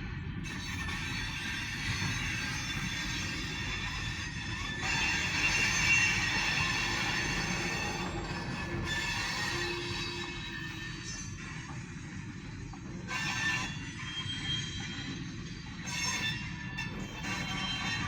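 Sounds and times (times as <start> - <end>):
train rumbling: 0.0 - 18.0
train wheels squealing: 0.0 - 18.0.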